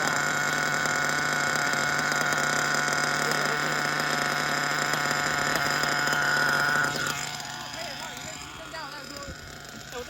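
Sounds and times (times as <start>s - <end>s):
model engine idling: 0.0s - 10.0s.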